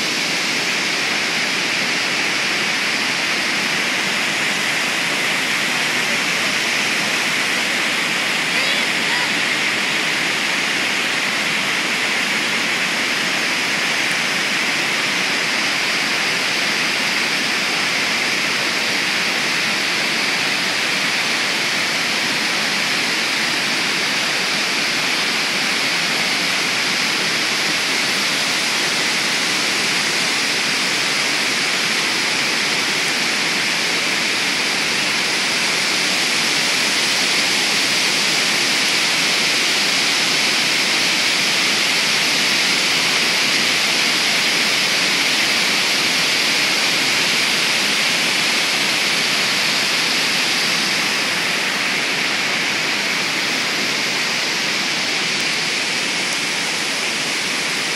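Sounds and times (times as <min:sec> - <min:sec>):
waterfall crashing: 0:00.0 - 0:57.9.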